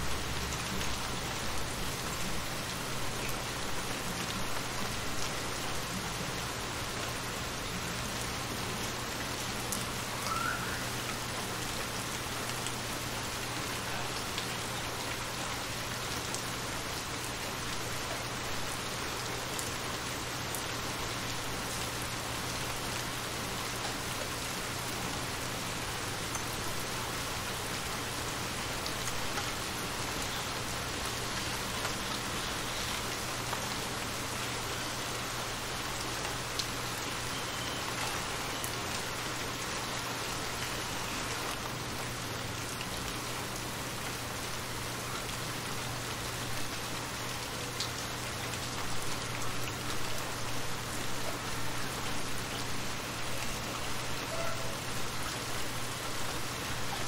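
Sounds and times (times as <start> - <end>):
rain falling on water: 0.0 - 57.0.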